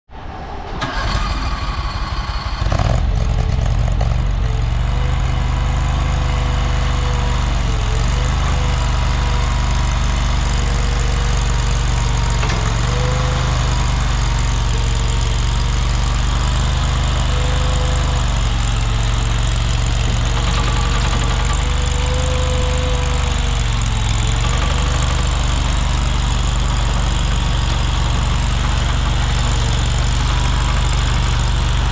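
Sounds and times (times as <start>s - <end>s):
engine whine: 0.1s - 31.9s
mini skid steer engine running: 0.8s - 31.9s.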